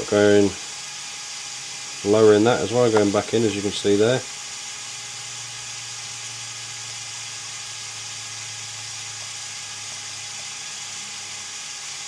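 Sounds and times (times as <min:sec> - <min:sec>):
toy electric motor whirring: 0:00.0 - 0:12.0.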